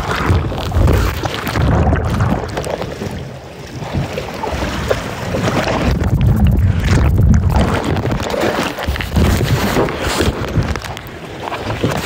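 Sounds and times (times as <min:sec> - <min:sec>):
strong wind on microphone: 0:00.0 - 0:12.0
water splashing against hull: 0:00.0 - 0:12.0.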